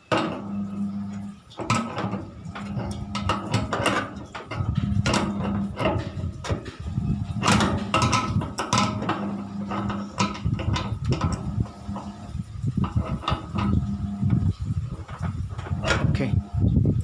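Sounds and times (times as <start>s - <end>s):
metal panels clattering: 0.0s - 16.6s.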